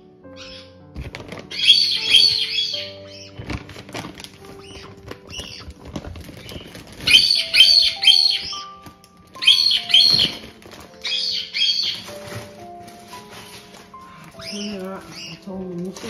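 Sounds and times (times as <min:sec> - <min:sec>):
light background music: 0:00.0 - 0:16.0
parrots chirping: 0:01.5 - 0:03.5, 0:04.4 - 0:15.5.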